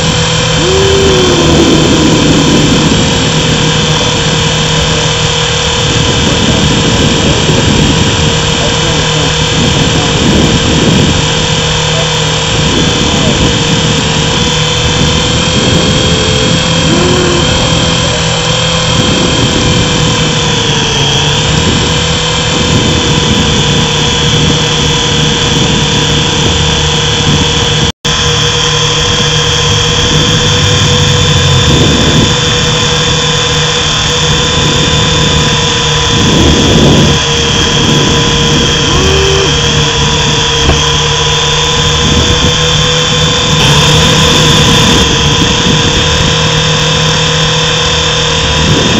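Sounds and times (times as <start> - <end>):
small helicopter motor and rotor whine: 0.0 - 48.9.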